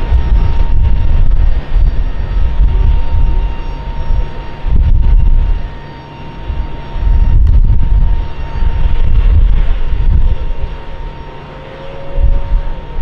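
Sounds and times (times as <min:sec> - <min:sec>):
airliner engine whine and rumble: 0:00.0 - 0:13.0.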